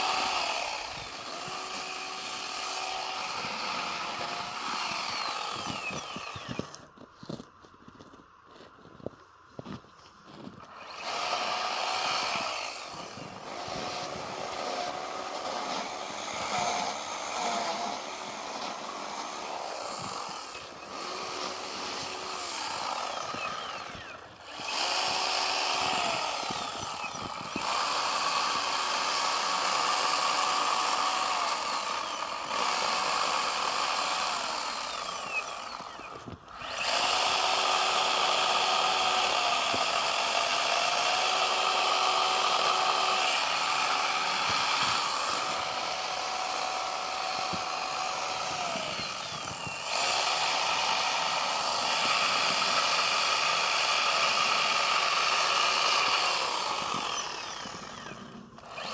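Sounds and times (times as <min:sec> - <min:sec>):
chainsaw cutting snow: 0:00.0 - 0:58.9.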